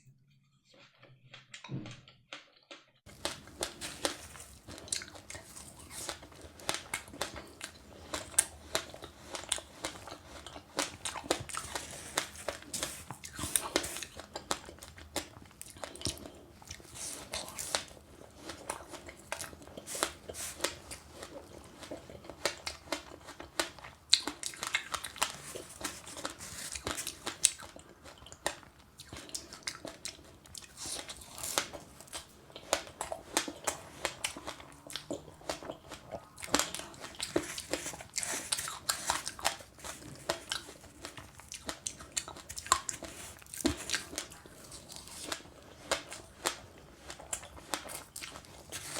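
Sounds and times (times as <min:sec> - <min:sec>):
chewing crunchy fruit: 0:00.6 - 0:48.9.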